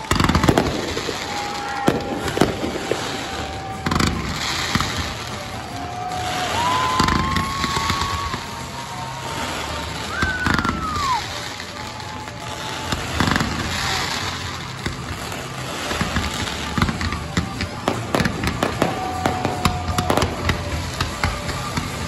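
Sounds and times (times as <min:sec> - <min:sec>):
firework falling whistle: 0:00.0 - 0:22.0
fireworks bangs and crackling: 0:00.0 - 0:22.0.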